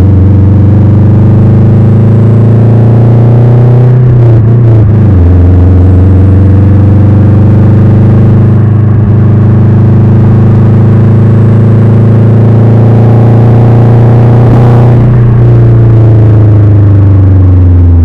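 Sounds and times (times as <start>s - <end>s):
car engine droning: 0.0s - 18.0s.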